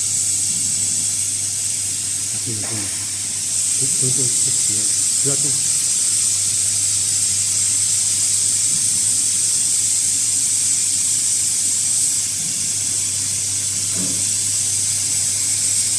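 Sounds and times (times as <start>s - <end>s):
high-pitched hiss: 0.0s - 15.9s.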